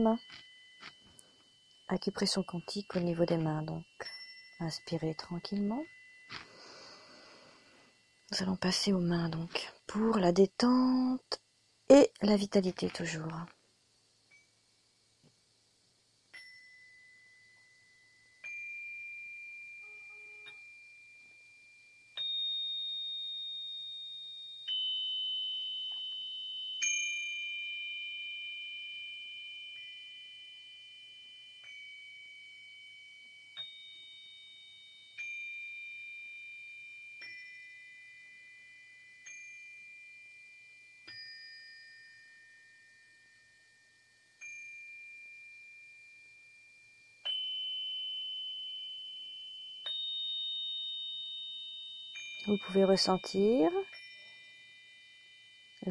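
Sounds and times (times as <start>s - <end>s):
bell-like chime notes: 0.0s - 10.0s, 16.3s - 55.9s.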